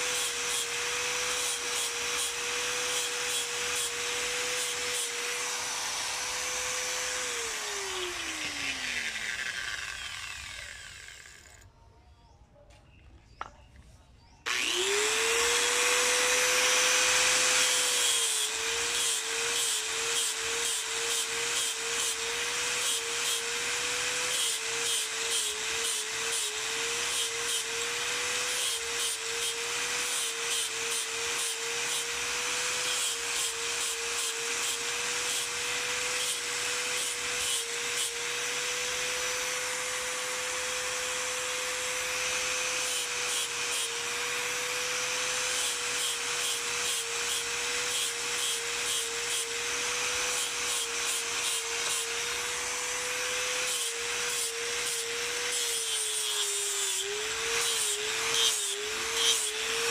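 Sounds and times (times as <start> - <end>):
angle grinder whining: 0.0 - 11.7, 14.5 - 59.9.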